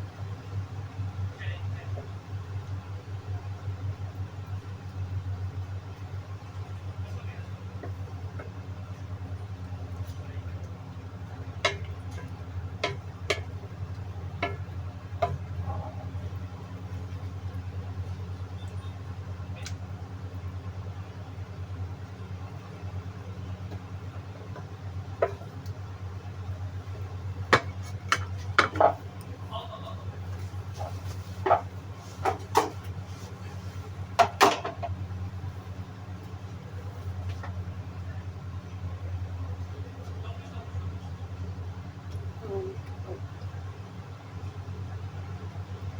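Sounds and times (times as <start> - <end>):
low motor hum: 0.0 - 45.9.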